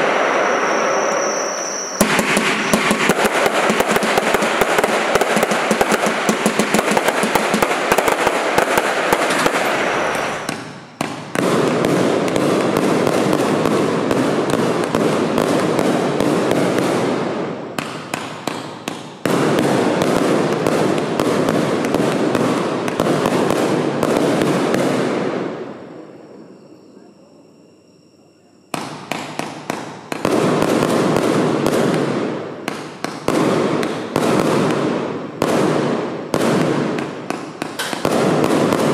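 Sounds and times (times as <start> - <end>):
fireworks cake firing volleys: 0.0 - 26.2, 28.8 - 38.9
fireworks crackling: 0.0 - 26.7, 28.7 - 38.9.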